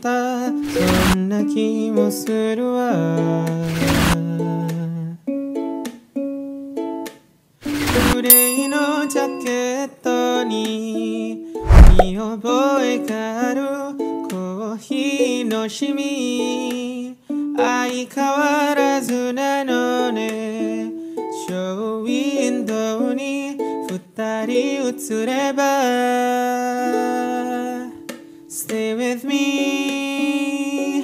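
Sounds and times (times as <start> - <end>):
song with plucked strings: 0.7 - 31.0.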